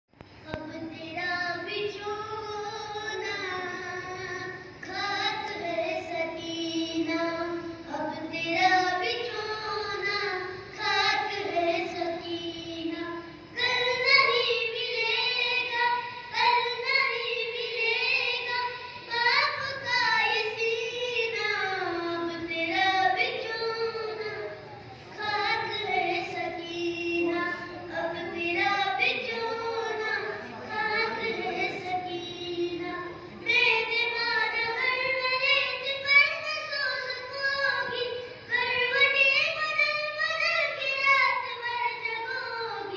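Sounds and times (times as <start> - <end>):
boy singing into a microphone: 0.2 - 42.9.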